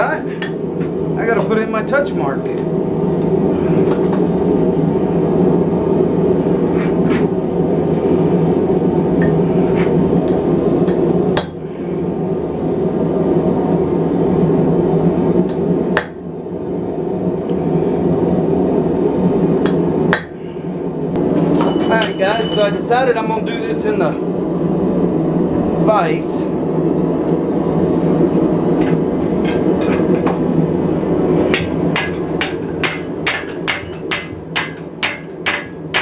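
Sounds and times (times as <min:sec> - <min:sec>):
forge roaring: 0:00.2 - 0:21.4, 0:23.1 - 0:34.6.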